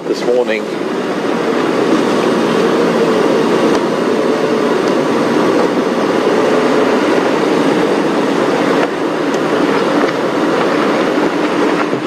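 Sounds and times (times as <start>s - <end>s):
road and rattle noise: 0.0s - 12.0s
vehicle engine hum: 0.0s - 12.0s.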